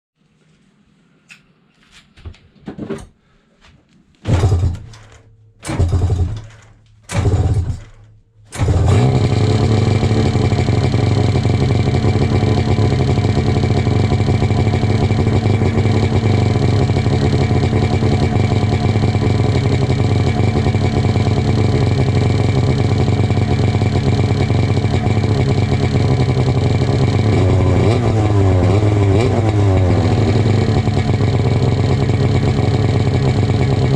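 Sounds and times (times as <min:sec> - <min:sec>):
snowmobile engine starting and running: 0:04.2 - 0:33.9.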